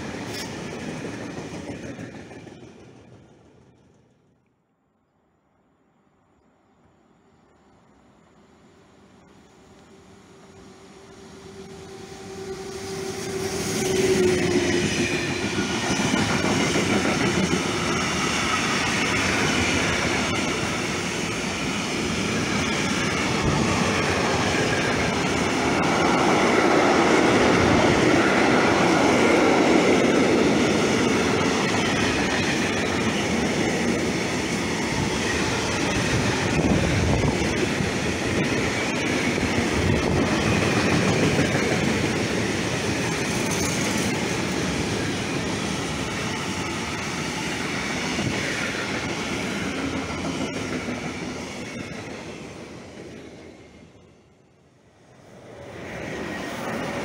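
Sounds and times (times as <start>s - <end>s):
freight train wheels rumbling: 0.0s - 4.4s, 9.0s - 54.3s.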